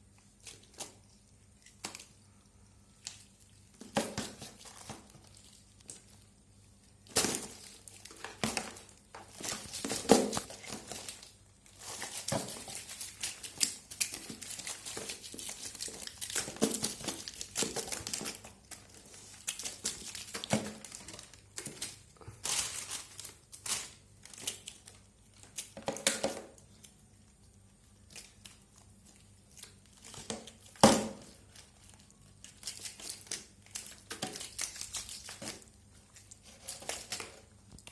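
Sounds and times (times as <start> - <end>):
crinkling and rustling: 0.0 - 37.9.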